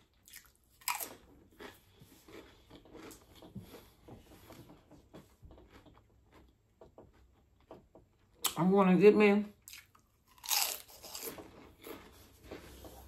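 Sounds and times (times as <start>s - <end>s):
chewing crunchy snack: 0.0s - 4.1s, 5.3s - 8.6s, 9.6s - 13.0s.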